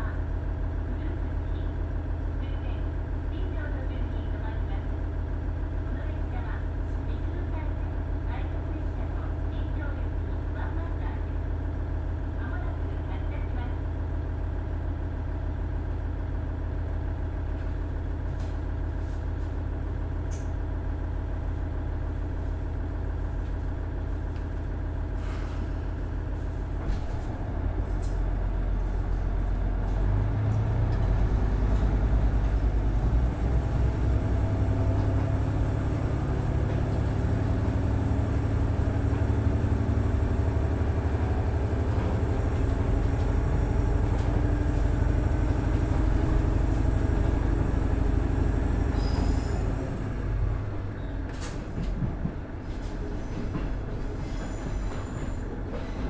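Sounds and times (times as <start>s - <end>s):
diesel railcar engine running: 0.0s - 56.0s.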